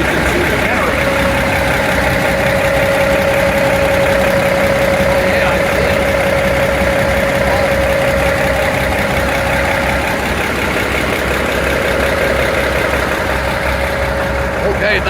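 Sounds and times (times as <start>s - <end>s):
diesel locomotive engine idling: 0.0s - 15.0s
steady whine: 0.0s - 15.0s.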